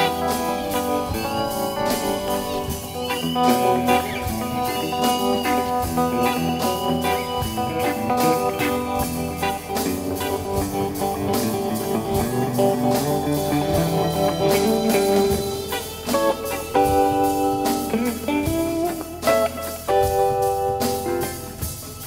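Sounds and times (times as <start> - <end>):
drums: 0.0 - 22.0
electric guitar: 0.0 - 22.0
keyboard: 0.0 - 22.0.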